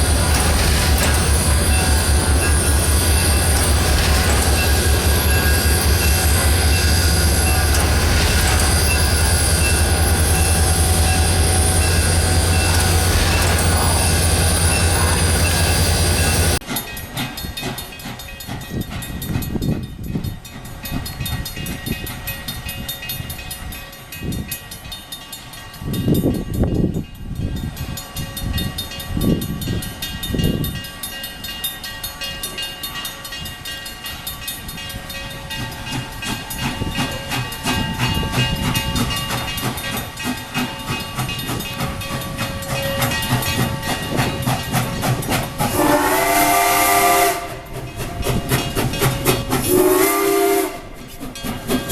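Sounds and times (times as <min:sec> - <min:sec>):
train wheels clicking on rails: 0:00.0 - 0:51.9.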